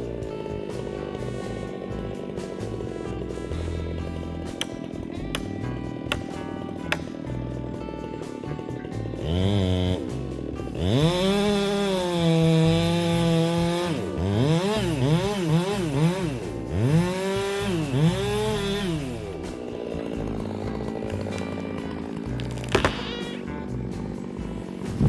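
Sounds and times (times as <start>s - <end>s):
chainsaw revving: 0.0s - 25.0s.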